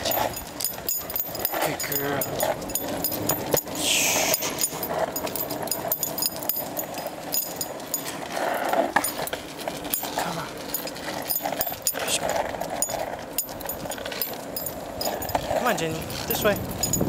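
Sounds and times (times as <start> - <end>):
light metallic jingles: 0.0 - 17.0.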